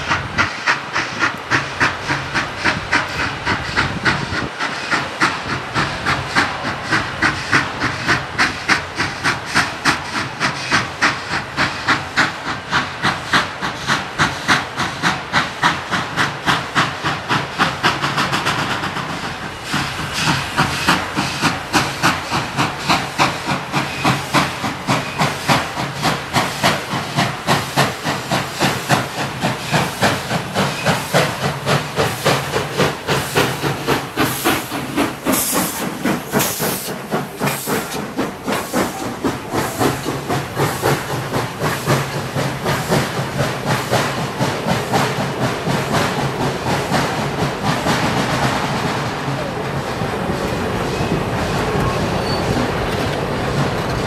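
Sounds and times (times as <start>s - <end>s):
constant steam hiss: 0.0s - 54.0s
harsh steam hisses: 0.0s - 54.0s
steam locomotive exhaust chuffing: 0.0s - 54.0s.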